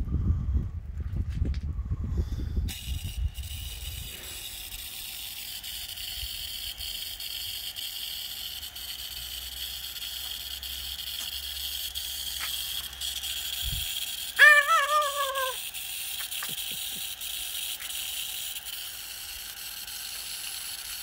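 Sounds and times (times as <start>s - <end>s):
water spray hissing on leaves: 2.7s - 21.0s.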